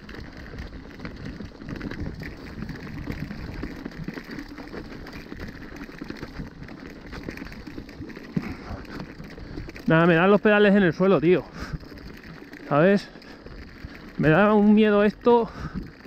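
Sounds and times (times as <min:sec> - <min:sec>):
bike clicks and rattles: 0:00.0 - 0:16.0
bike tyres crunching over stones: 0:00.0 - 0:16.0.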